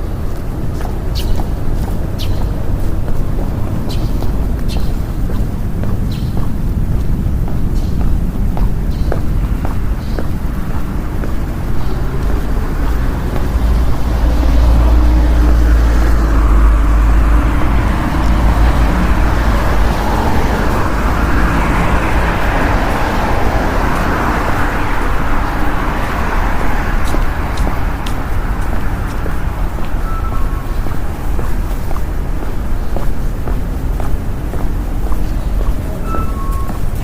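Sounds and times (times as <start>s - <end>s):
car engines passing: 0.0s - 37.0s.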